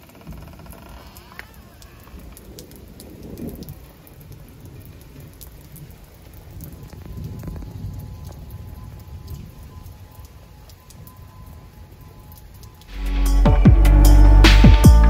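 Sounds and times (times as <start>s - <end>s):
rain falling: 0.0s - 14.6s.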